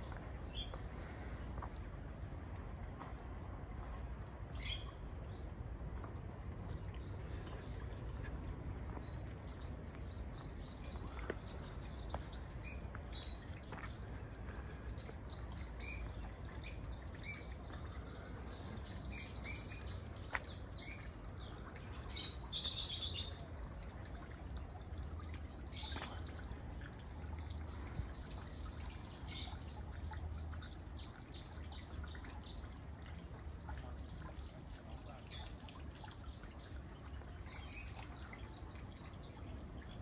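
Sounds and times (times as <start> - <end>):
small birds chirping: 0.0 - 2.8, 4.4 - 40.0
fountain trickling: 0.0 - 40.0.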